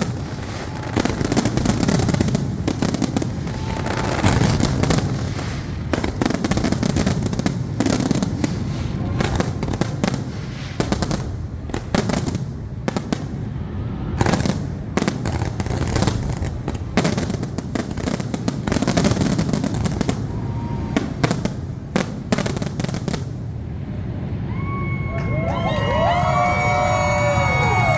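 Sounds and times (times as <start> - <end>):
fireworks rumble and crackle: 0.0 - 27.9.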